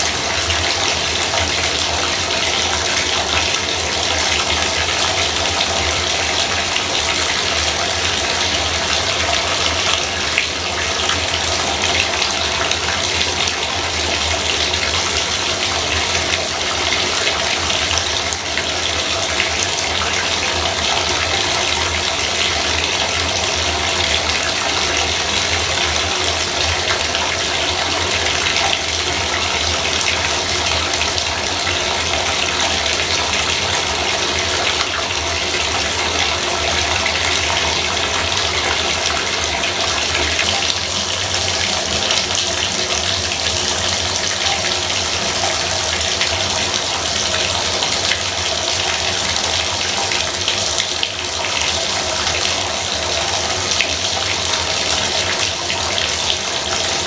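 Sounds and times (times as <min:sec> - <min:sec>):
bathtub faucet running: 0:00.0 - 0:57.0.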